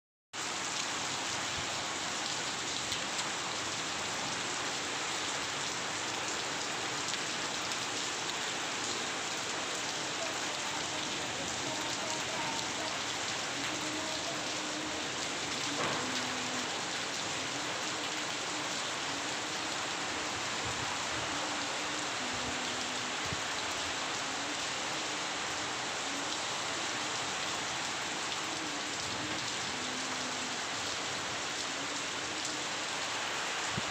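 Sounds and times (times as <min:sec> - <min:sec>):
rain pattering on surfaces: 0:00.4 - 0:33.9.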